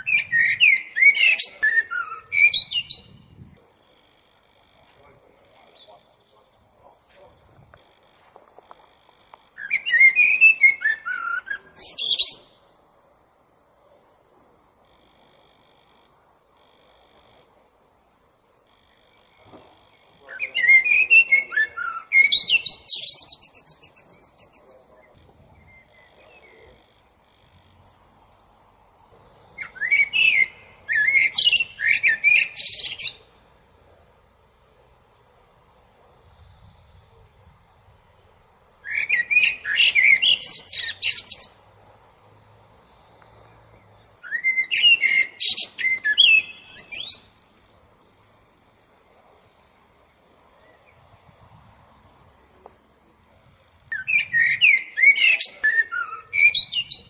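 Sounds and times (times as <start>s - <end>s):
blackbird singing: 0.0s - 7.9s, 8.6s - 12.8s, 16.8s - 41.8s, 42.7s - 51.3s, 52.2s - 57.0s.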